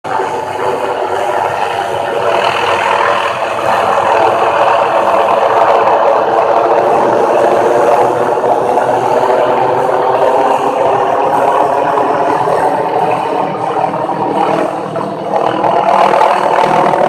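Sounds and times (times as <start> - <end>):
air saw running: 0.0 - 17.0
helicopter running: 0.0 - 17.0.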